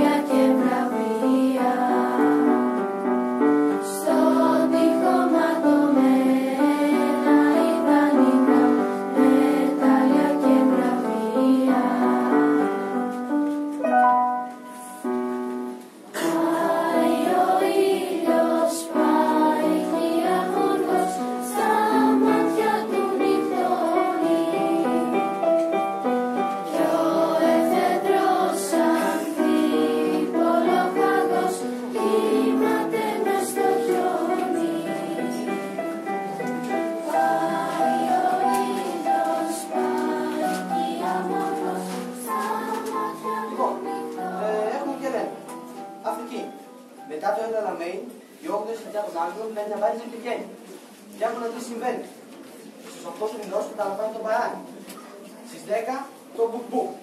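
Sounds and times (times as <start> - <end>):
electronic keyboard tune: 0.0 - 18.3, 19.0 - 47.0
children's choir singing: 0.0 - 45.9.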